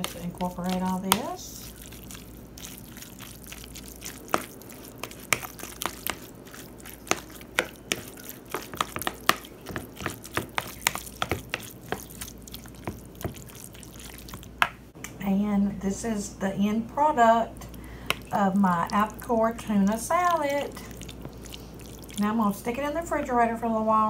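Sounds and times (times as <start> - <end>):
soft mixing noise: 0.0 - 24.0.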